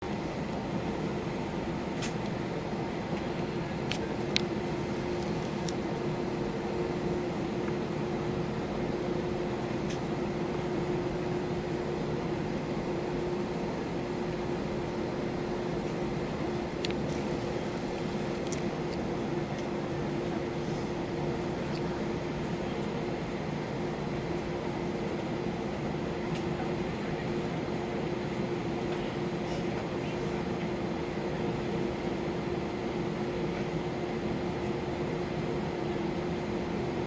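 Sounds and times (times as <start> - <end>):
aircraft cabin drone: 0.0 - 37.0.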